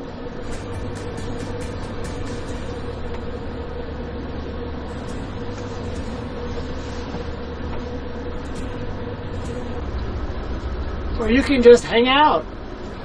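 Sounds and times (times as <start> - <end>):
train car ventilation hum: 0.0 - 13.0.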